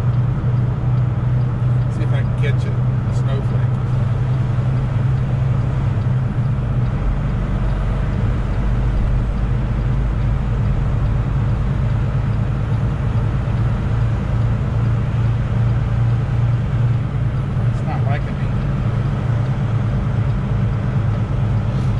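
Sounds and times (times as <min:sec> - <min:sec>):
diesel truck engine droning: 0:00.0 - 0:21.9
tyre and road noise: 0:00.0 - 0:21.9.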